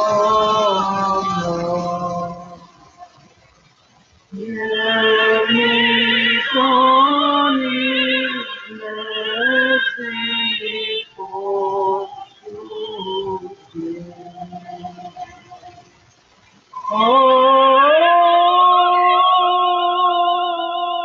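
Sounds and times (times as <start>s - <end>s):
soprano singing a hymn: 0.0s - 3.2s, 4.3s - 15.8s, 16.8s - 21.0s.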